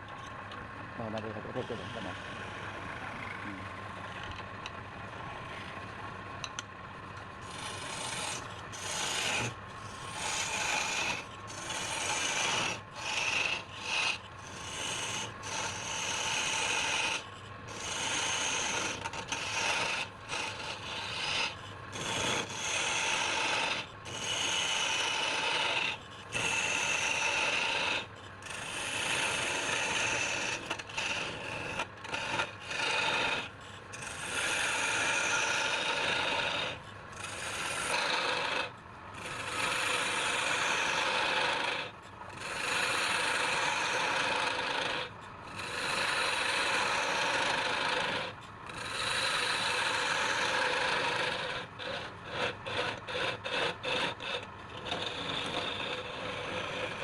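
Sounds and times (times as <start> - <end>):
lathe tool rasping on wood: 0.9 - 5.6, 7.3 - 57.0.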